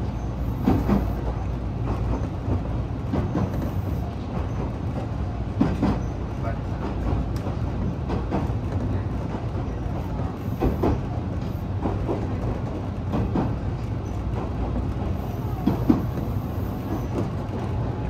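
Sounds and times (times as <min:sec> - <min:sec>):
train rumble inside carriage: 0:00.0 - 0:18.0.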